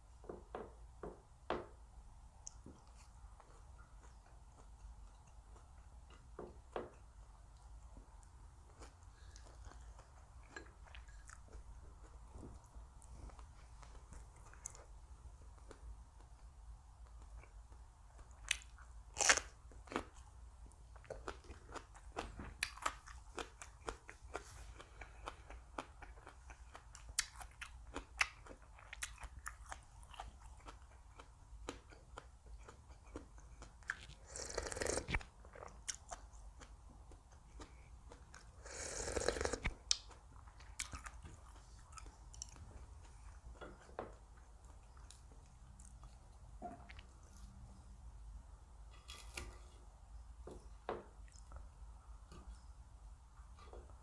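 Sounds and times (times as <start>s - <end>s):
chewing and crunching food: 2.4s - 47.9s.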